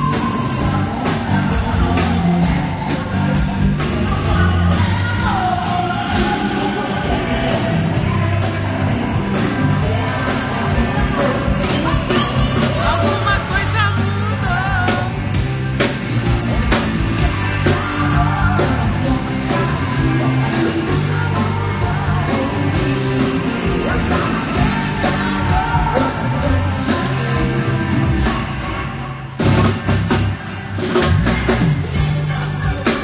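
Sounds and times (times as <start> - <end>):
loud pop music with singing: 0.0 - 33.0.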